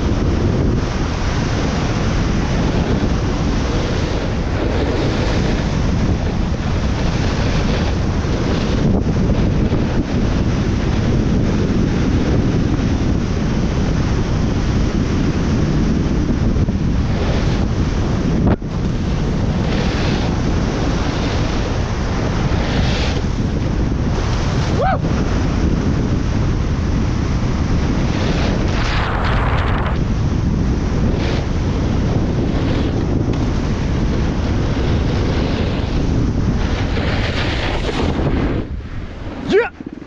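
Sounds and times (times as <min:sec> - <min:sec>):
snowboard scraping packed snow: 0:00.0 - 0:13.8, 0:14.4 - 0:40.0
wind buffeting microphone: 0:00.0 - 0:40.0.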